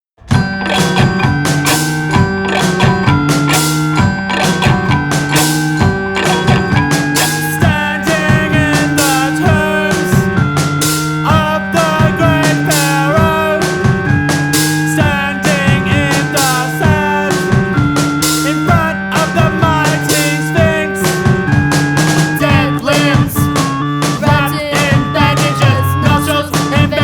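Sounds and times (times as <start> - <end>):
rock instrumental music: 0.2 - 27.0.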